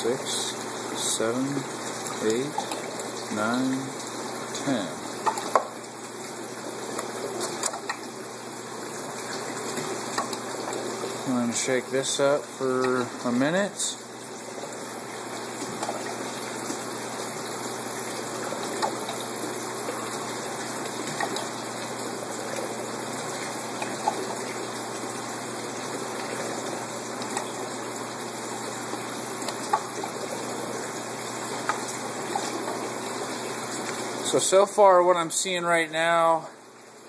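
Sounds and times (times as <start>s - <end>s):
water rushing through pipes: 0.0s - 37.0s.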